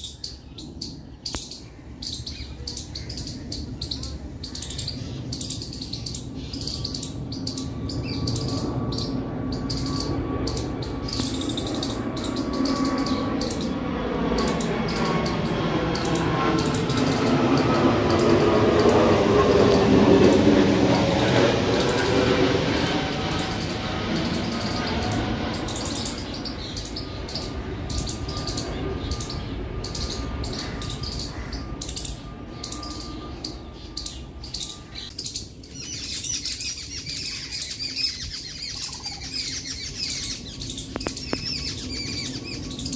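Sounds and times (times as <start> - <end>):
birds chirping: 0.0 - 42.9
low wavering rumble: 0.4 - 35.1.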